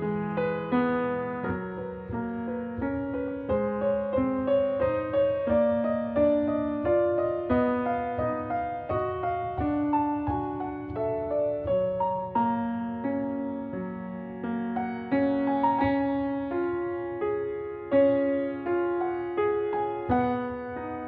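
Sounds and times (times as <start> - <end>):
slow gentle piano: 0.0 - 21.0.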